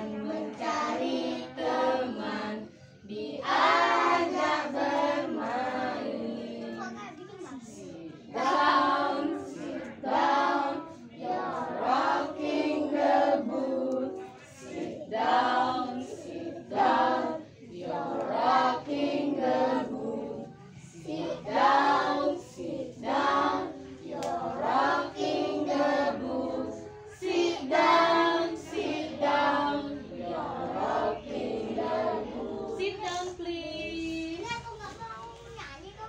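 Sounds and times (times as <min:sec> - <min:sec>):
children singing in chorus: 0:00.0 - 0:07.0, 0:07.7 - 0:33.4.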